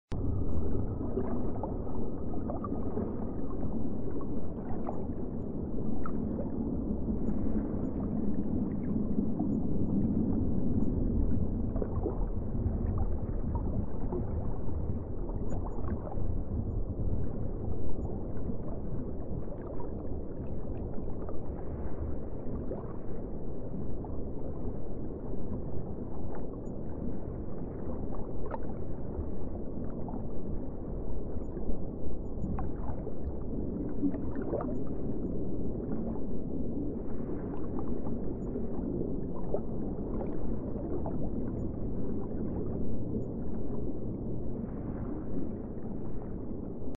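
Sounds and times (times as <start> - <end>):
muffled underwater water wash: 0.1 - 46.9
soft water gurgles: 0.1 - 46.9.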